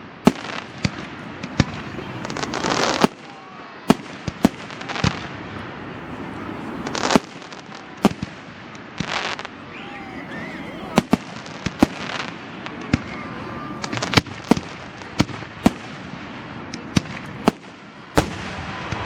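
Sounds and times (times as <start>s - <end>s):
hissing crackling fireworks: 0.0s - 19.0s.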